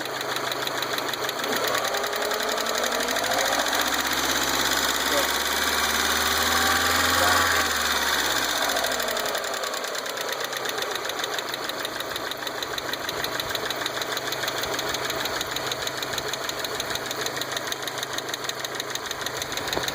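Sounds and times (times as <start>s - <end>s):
engine revving and idling: 0.0s - 19.9s
metallic ticking engine knock: 0.0s - 19.9s.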